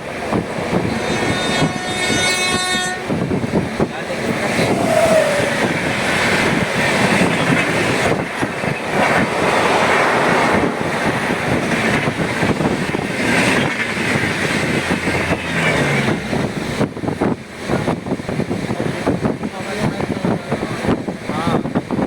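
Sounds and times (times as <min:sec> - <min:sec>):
train wheels on track: 0:00.0 - 0:22.0.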